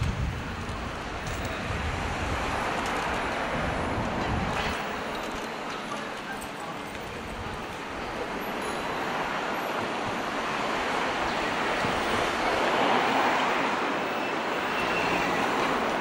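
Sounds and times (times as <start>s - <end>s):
road traffic hiss: 0.0s - 16.0s.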